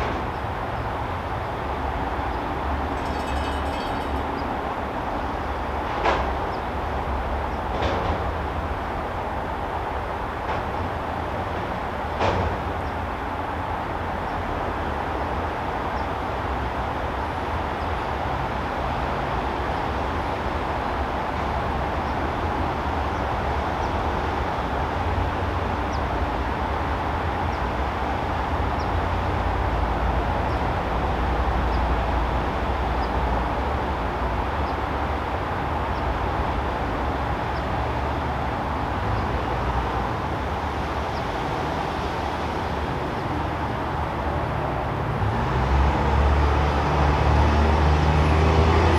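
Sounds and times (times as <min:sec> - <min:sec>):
distant traffic rumble: 0:00.0 - 0:48.9.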